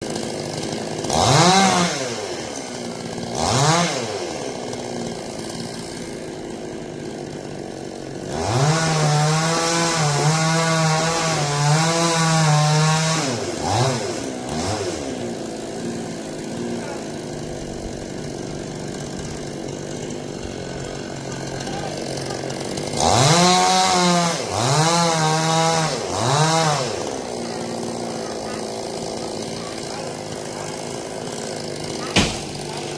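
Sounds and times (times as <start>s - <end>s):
chainsaw idling and revving: 0.0s - 32.9s.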